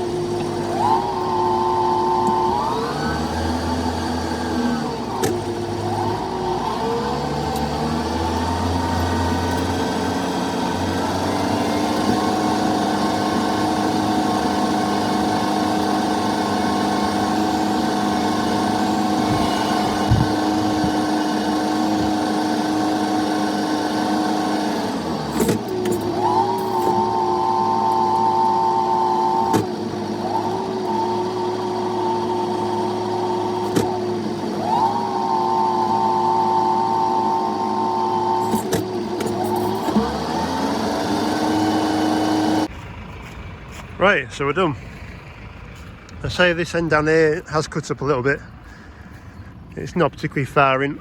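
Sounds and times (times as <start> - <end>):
tractor engine under load: 0.0 - 51.0.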